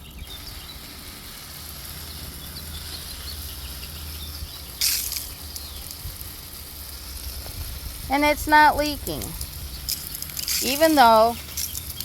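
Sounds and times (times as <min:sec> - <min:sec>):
garden hose spraying water: 0:00.0 - 0:12.0.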